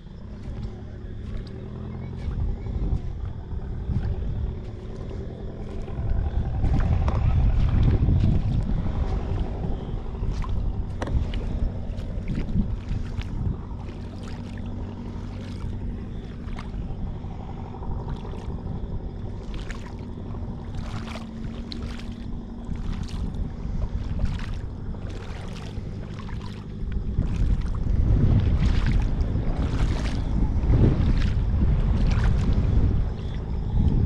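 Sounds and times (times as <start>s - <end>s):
boat engine humming: 0.0s - 34.0s
seawater lapping: 0.0s - 34.0s
wind buffeting microphone: 0.0s - 34.0s.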